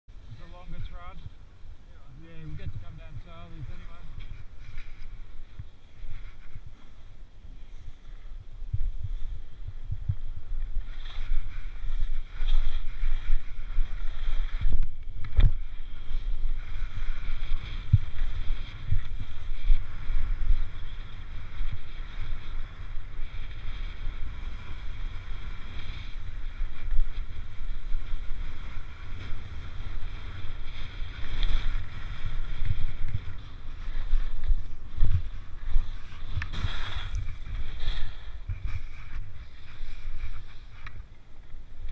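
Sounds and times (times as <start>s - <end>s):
wind buffeting camera: 0.1s - 41.9s
skis scraping on snow: 0.2s - 41.9s.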